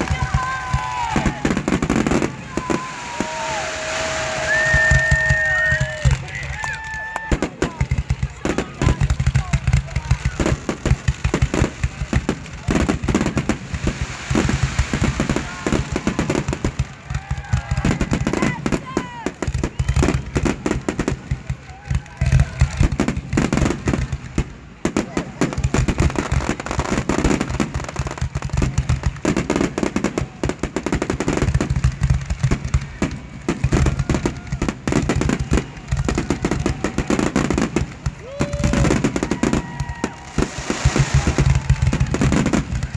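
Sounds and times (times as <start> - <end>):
fireworks crackling and popping: 0.0 - 42.9.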